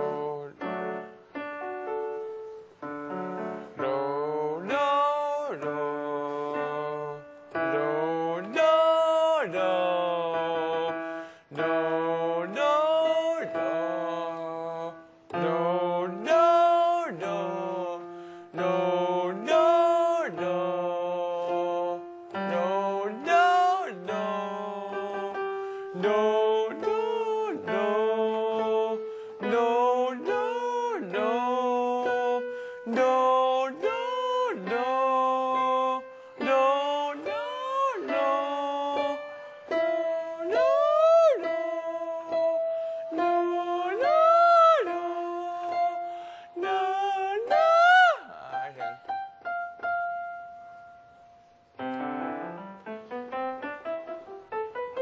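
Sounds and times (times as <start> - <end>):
digital piano chords: 0.0 - 55.0.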